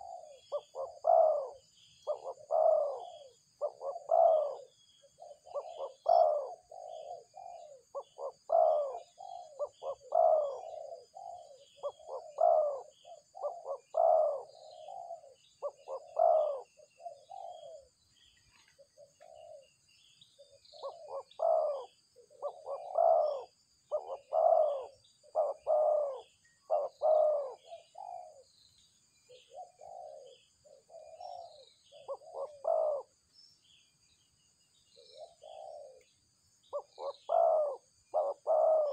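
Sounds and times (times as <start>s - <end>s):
doves cooing: 0.0s - 19.8s, 20.4s - 28.5s, 29.3s - 33.2s, 35.0s - 36.1s, 36.7s - 38.9s
small birds chirping: 0.0s - 38.9s.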